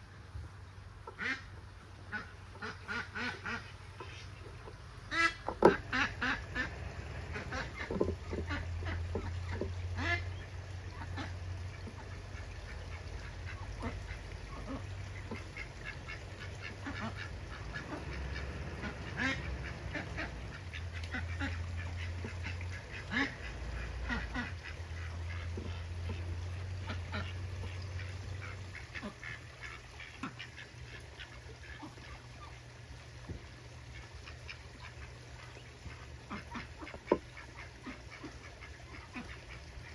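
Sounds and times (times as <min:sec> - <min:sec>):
low steady rumble: 0:00.0 - 0:39.9
ducks quacking: 0:01.0 - 0:39.9.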